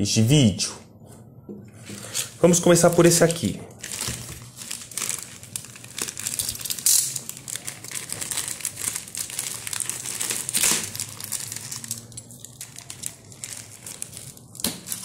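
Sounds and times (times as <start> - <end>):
plastic mailer bag crinkling: 2.6 - 15.0.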